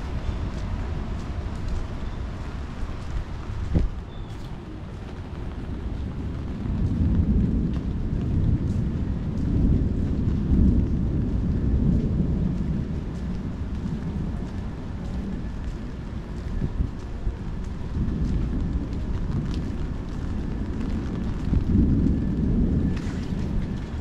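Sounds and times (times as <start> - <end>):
rolling thunder: 0.0 - 24.0.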